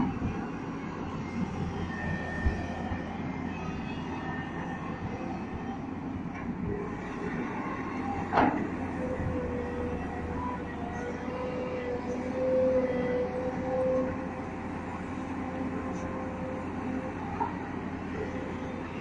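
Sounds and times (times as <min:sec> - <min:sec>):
excavator diesel engine: 0:00.0 - 0:19.0
faint whining tones: 0:00.0 - 0:19.0.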